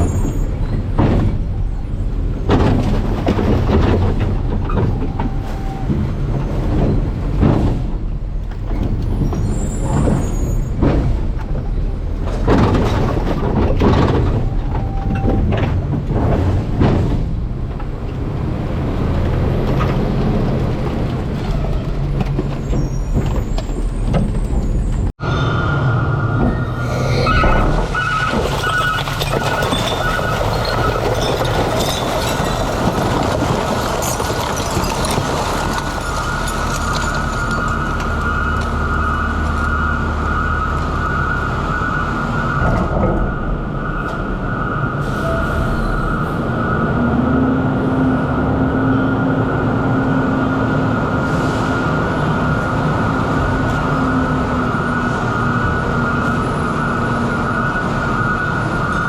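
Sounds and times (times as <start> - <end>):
garbage truck rumbling: 0.0 - 59.0.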